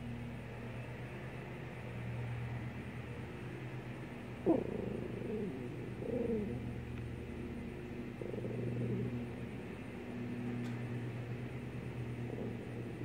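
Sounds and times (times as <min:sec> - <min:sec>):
steady low hum: 0:00.0 - 0:13.0
bird cooing: 0:01.7 - 0:13.0.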